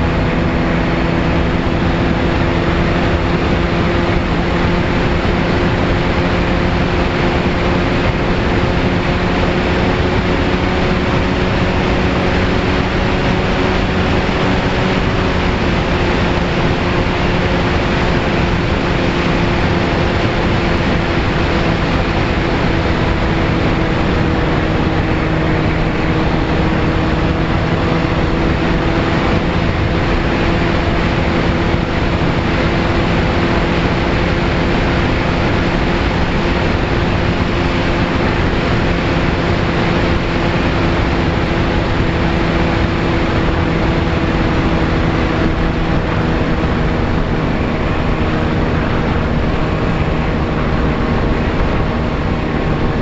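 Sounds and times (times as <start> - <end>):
motor and propeller hum: 0.0 - 53.0.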